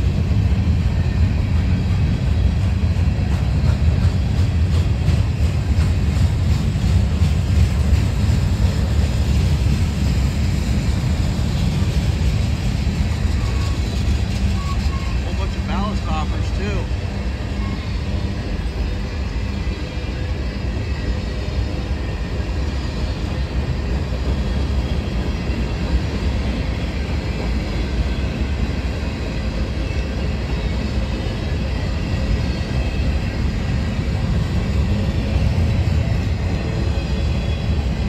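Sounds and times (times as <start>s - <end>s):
freight train rolling by: 0.0s - 38.0s.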